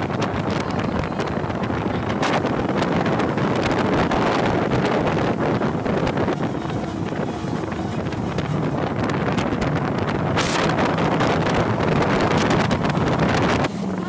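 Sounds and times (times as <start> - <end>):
outboard motors running: 0.0 - 14.0
rush of boat wake: 0.0 - 14.0
wind buffeting microphone: 0.0 - 14.0.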